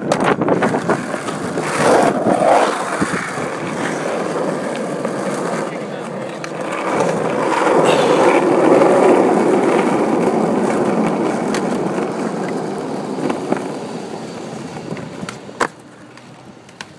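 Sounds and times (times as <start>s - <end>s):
skateboard wheels rolling on asphalt: 0.0s - 16.9s.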